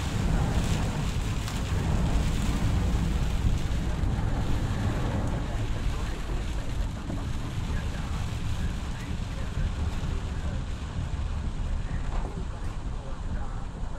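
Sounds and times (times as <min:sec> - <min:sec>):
heavy rain on car roof: 0:00.0 - 0:13.9
road and engine noise: 0:00.0 - 0:13.9.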